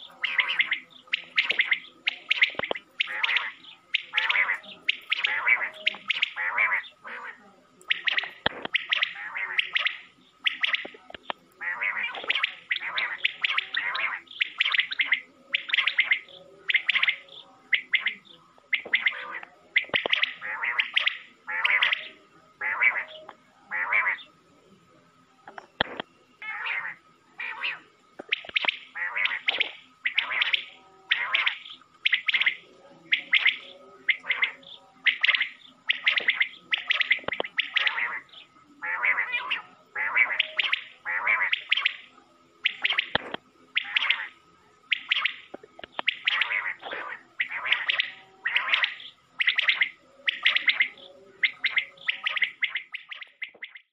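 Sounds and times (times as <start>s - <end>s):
quail calling: 0.0s - 24.3s, 25.5s - 53.9s.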